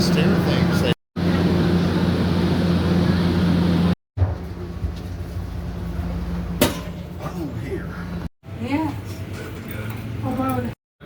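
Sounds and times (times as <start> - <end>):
passenger train humming: 0.0 - 9.0.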